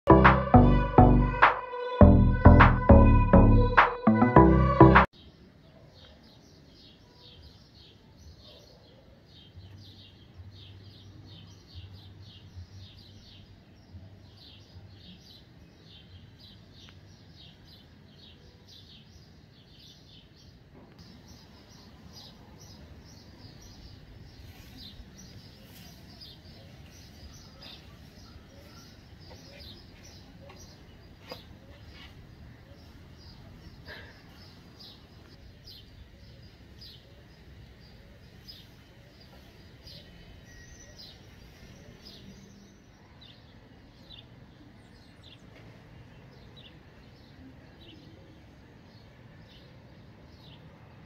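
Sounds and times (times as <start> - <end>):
bird chirping: 0.1 - 48.2.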